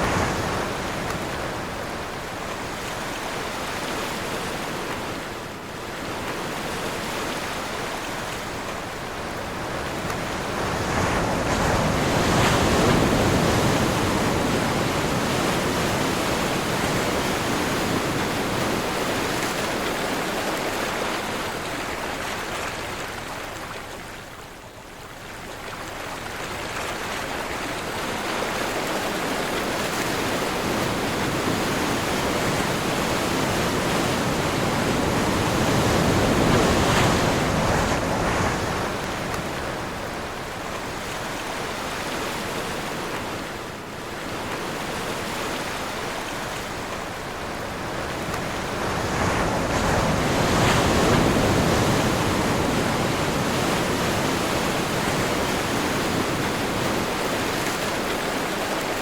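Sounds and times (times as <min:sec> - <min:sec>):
ocean waves breaking: 0:00.0 - 0:24.0, 0:25.8 - 0:59.0
wind: 0:00.0 - 0:59.0.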